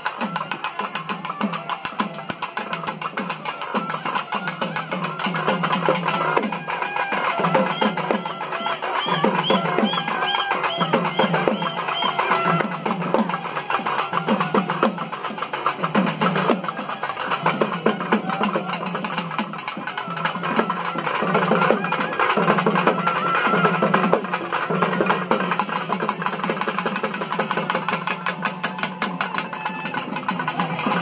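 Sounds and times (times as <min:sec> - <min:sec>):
fast drumming on barrel drums: 0:00.0 - 0:31.0.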